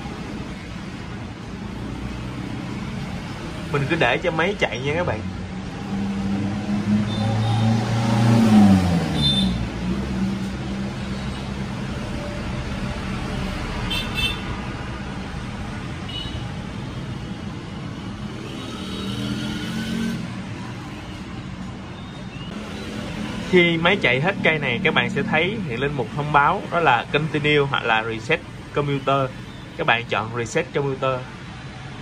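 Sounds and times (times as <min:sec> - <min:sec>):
vehicle passing by: 0:00.0 - 0:21.5, 0:22.5 - 0:28.0
vehicle engines running: 0:00.0 - 0:32.0.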